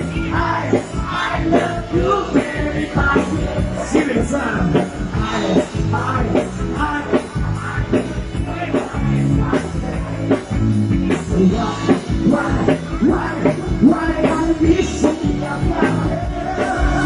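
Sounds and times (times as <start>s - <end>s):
bass guitar: 0.0s - 17.0s
electric guitar: 0.0s - 17.0s
steady drum beat: 0.0s - 17.0s.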